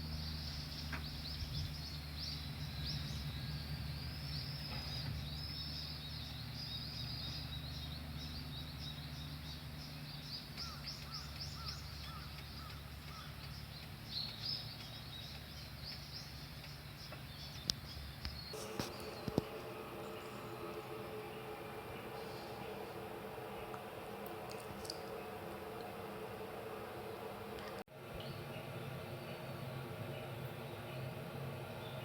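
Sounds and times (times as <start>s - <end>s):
small birds chirping: 0.0s - 25.9s
low background rumble: 0.0s - 32.0s.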